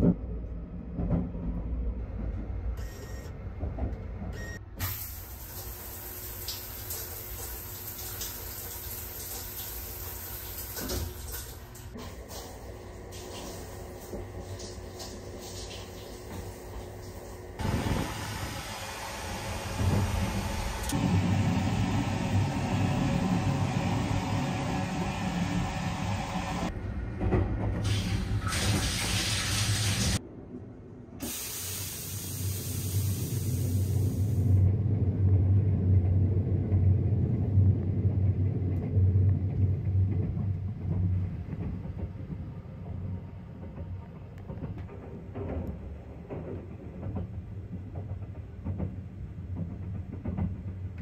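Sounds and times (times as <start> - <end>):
train running rumble and hiss: 3.6 - 30.2, 31.2 - 51.0.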